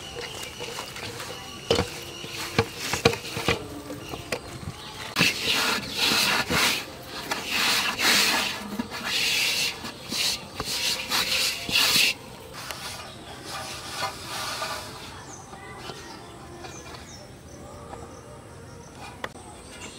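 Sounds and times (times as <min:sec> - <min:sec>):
hand scraping dough in steel bowl: 0:00.0 - 0:17.2.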